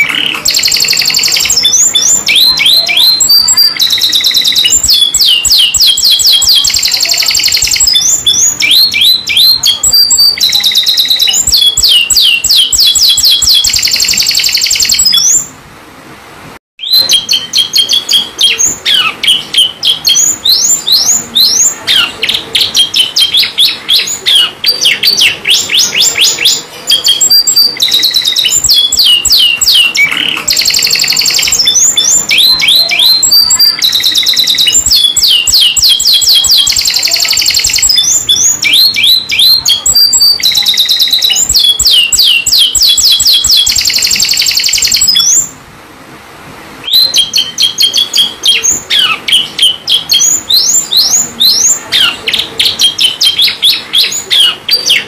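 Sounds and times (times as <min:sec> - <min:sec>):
canary singing: 0:00.0 - 0:15.6, 0:16.8 - 0:45.6, 0:46.8 - 0:55.0.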